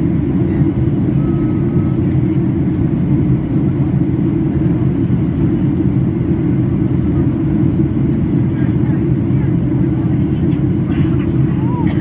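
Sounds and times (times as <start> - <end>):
airplane cabin noise in flight: 0.0 - 12.0.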